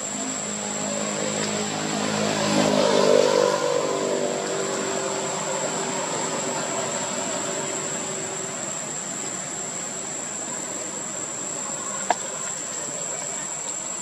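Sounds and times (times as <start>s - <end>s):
high-pitched whine: 0.0s - 12.0s
motor engine droning: 0.0s - 13.4s.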